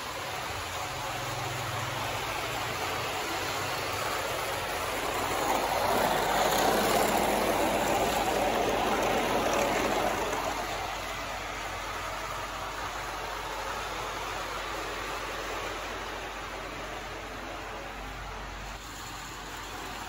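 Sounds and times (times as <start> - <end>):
model train motor and wheels: 0.0 - 20.0.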